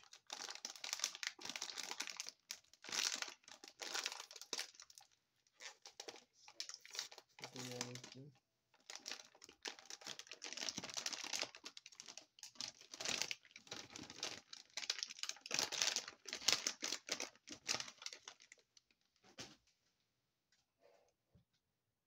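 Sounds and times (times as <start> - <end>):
metallic plastic bag crinkling: 0.0 - 18.7.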